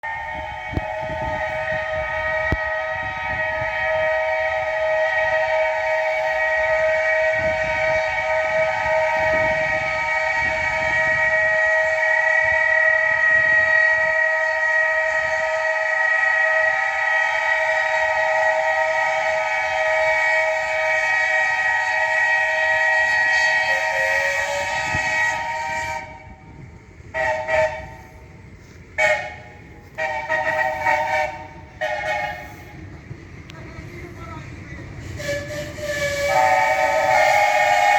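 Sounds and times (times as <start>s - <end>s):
steam whistles blowing: 0.0s - 33.0s, 35.0s - 37.9s.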